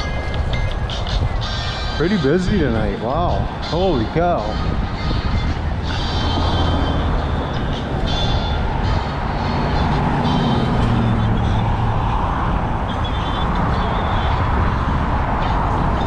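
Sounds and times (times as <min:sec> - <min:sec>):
bicycle rumble and wind noise: 0:00.0 - 0:16.0
motor vehicle passing: 0:00.0 - 0:16.0.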